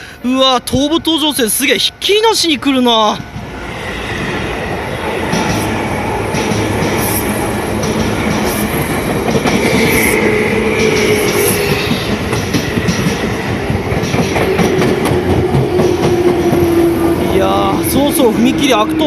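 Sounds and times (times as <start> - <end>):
electric train passing: 0.0 - 19.0
train wheels clattering: 3.4 - 19.0.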